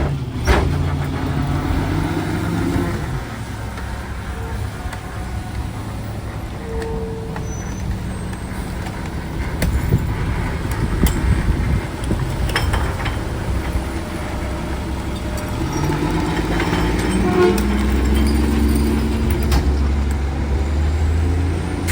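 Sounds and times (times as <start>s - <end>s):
garbage truck diesel engine: 0.0s - 21.9s.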